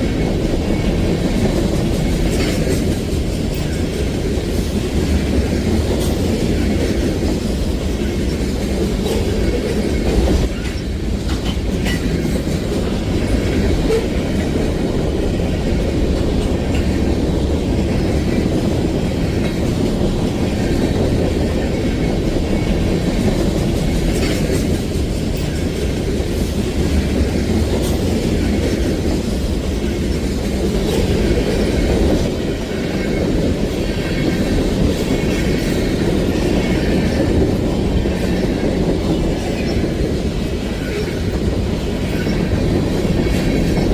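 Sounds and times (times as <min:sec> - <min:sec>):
freight train rumbling past: 0:00.0 - 0:43.9
train wheels clicking over rail joints: 0:00.0 - 0:43.9.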